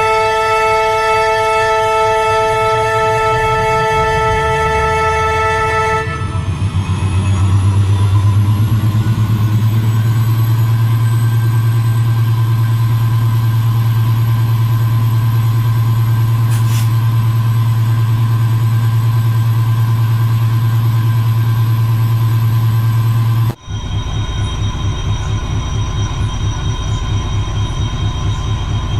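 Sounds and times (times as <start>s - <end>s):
railway locomotive humming: 0.0s - 28.9s.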